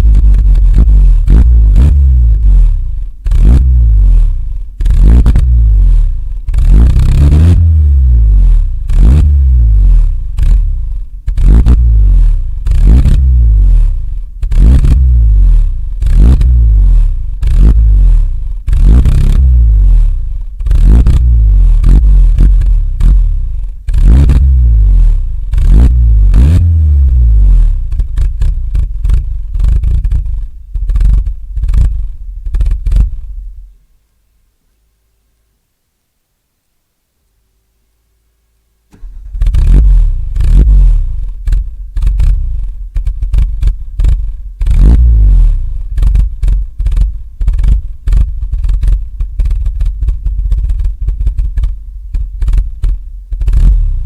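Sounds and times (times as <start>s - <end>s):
engine exhaust revving: 0.0s - 33.3s, 38.9s - 51.8s, 52.4s - 54.0s.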